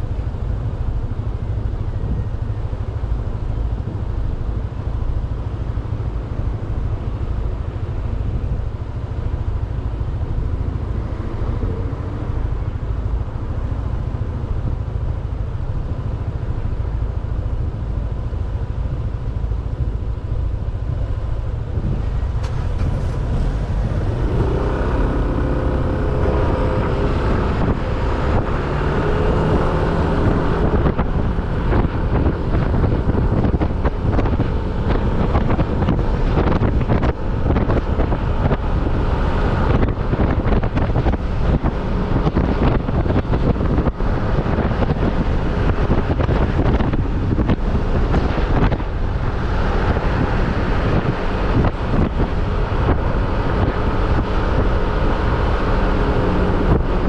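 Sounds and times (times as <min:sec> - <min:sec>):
motorcycle engine running: 0:00.0 - 0:57.0
wind rumbling on microphone: 0:00.0 - 0:57.0.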